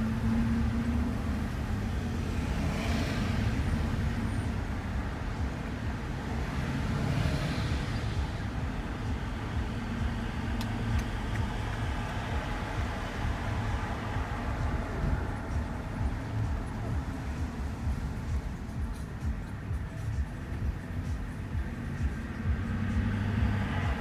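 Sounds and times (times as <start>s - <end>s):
van engine and tyre rumble: 0.0s - 24.0s.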